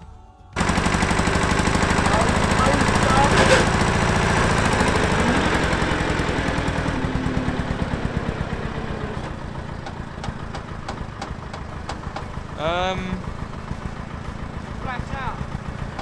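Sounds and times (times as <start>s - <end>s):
diesel engine chugging: 0.6s - 16.0s.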